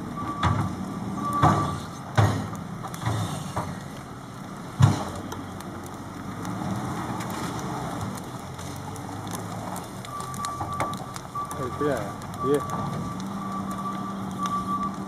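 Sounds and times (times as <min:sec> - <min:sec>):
front loader engine running: 0:00.0 - 0:15.0
sharp knocks and cracks: 0:00.4 - 0:04.0, 0:04.7 - 0:15.0.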